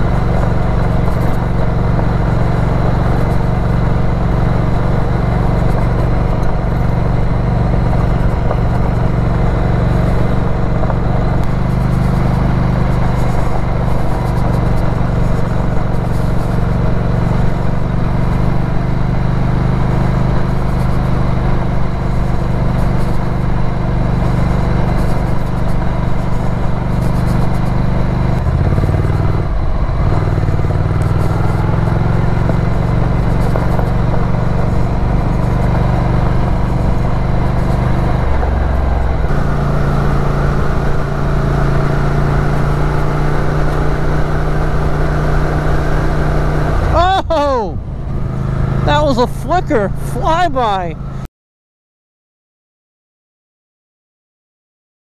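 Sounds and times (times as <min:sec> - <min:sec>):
motorcycle engine running: 0:00.0 - 0:51.3.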